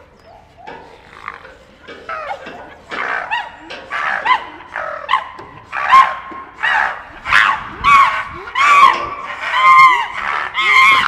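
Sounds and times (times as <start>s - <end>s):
chimpanzees screaming: 0.3s - 11.0s.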